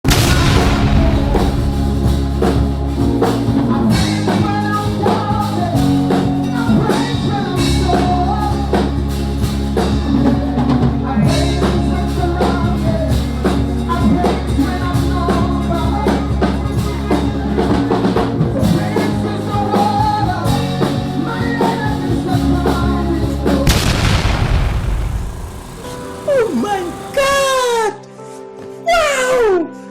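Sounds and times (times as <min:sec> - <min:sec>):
music with drums and bass: 0:00.0 - 0:27.7.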